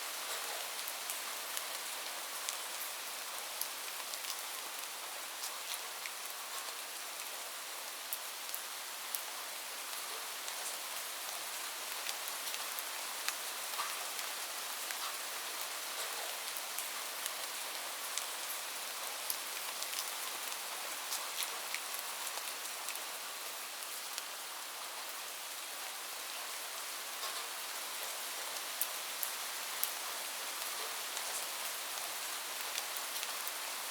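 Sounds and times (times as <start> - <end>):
light rain falling: 0.0 - 33.9.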